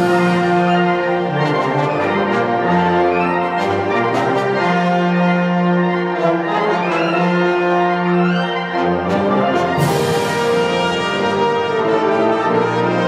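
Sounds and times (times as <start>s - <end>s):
concert band playing: 0.0s - 5.3s, 6.2s - 13.0s.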